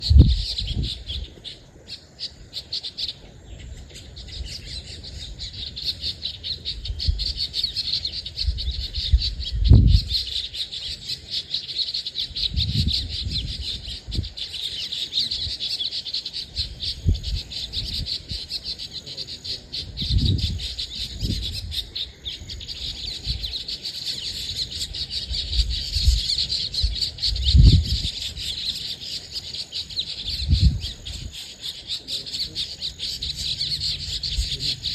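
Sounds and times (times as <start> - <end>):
birds chirping and twittering: 0.0 - 34.9.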